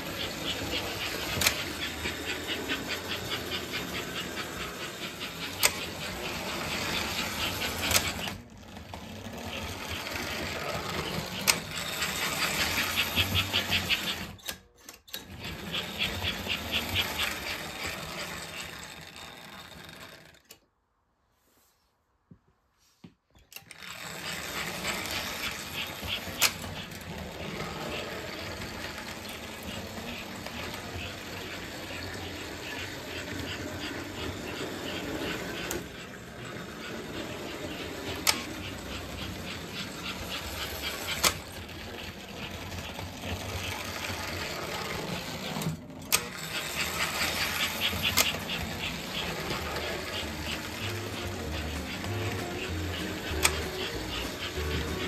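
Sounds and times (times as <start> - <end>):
model trains rattling on track: 0.0 - 20.6, 23.7 - 55.0.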